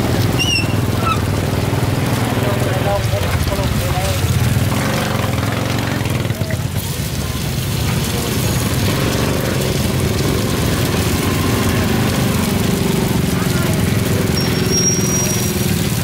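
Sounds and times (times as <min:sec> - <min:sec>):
street noise: 0:00.0 - 0:16.0
vehicle engine running: 0:00.0 - 0:16.0.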